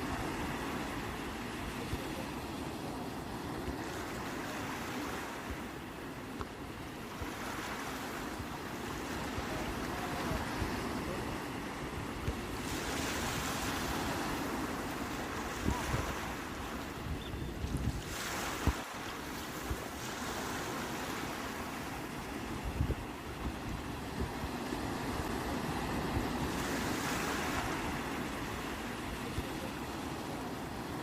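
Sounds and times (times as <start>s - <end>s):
sea waves washing onto shore: 0.0s - 31.0s.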